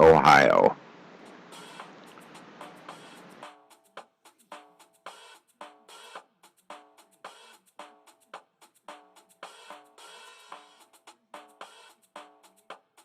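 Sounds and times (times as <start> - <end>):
drum kit beat with cymbals: 1.5 - 13.0.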